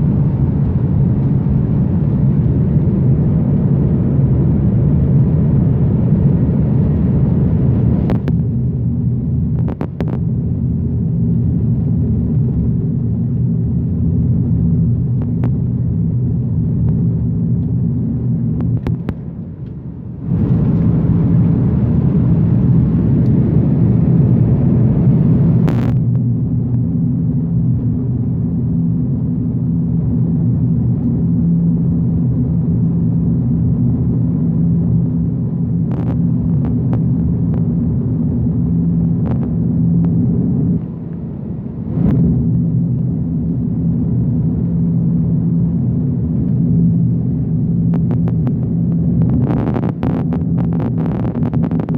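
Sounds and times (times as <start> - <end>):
jet engines rumbling during takeoff: 0.0 - 51.9.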